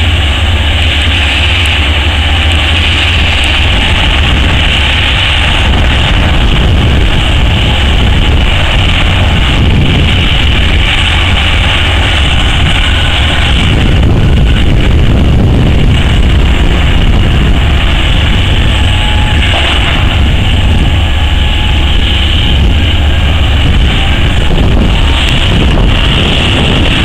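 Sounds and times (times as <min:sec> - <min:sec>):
mining shovel diesel and hydraulics: 0:00.0 - 0:27.0.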